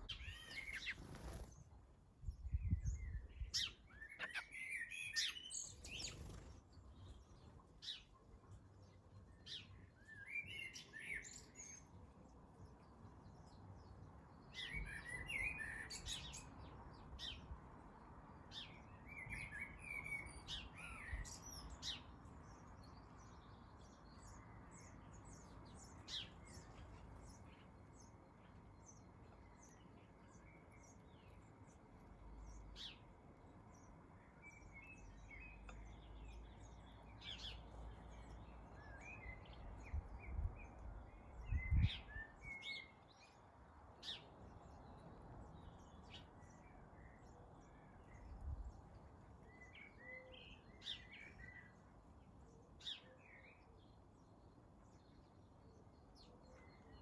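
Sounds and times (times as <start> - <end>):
garden birds chirping: 0.0 - 57.0.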